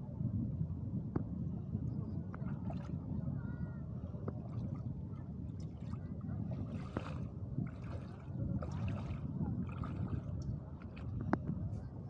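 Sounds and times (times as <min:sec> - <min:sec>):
sea water lapping and sloshing: 0:02.3 - 0:12.0.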